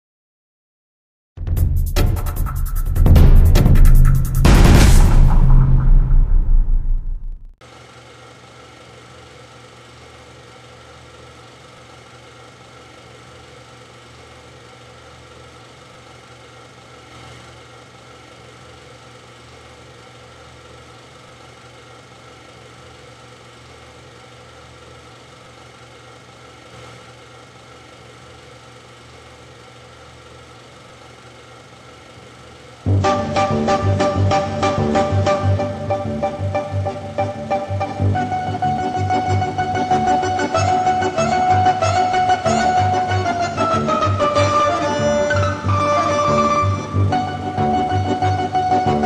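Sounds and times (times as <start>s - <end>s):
steady hum of held tones: 7.8s - 49.0s.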